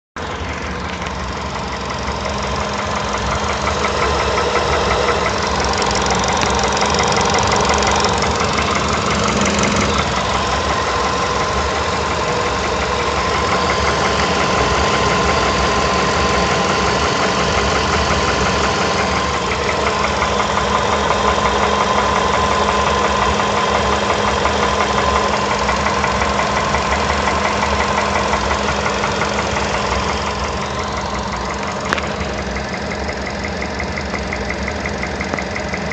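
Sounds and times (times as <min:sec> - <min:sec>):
car engine running with rapid knock: 0:00.2 - 0:35.9.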